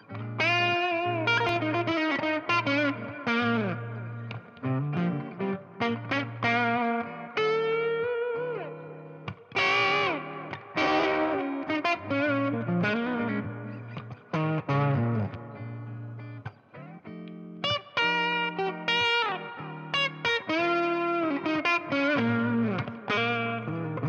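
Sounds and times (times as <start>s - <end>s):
distorted electric guitar lead: 0.0s - 24.0s.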